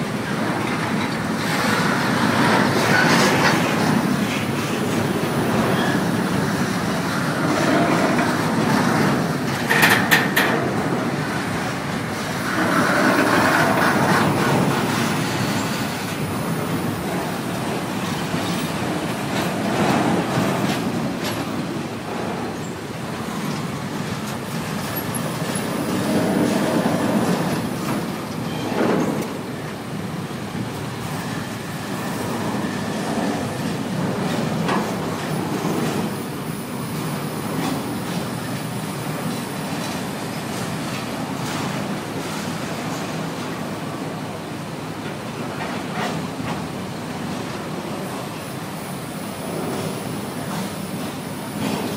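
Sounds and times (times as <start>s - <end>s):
wheels clacking over rail joints: 0.0s - 43.8s, 45.0s - 48.5s, 49.4s - 51.9s
train wheels rumbling on rail: 0.0s - 51.9s.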